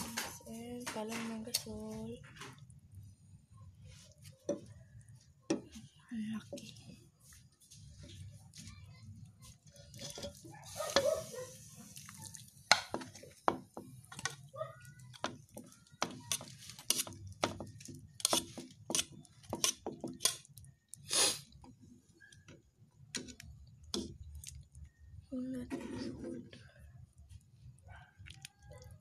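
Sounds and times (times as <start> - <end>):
broth boiling with popping bubbles: 0.0 - 7.0, 7.7 - 25.4.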